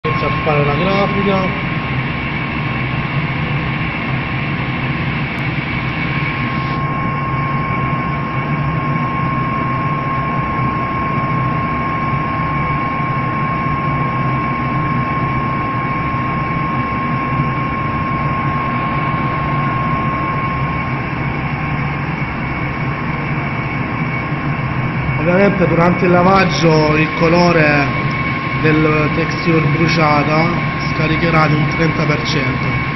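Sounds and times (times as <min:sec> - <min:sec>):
high thin whine: 0:00.0 - 0:11.2, 0:14.7 - 0:32.9
laser engraving machine running: 0:00.0 - 0:32.9.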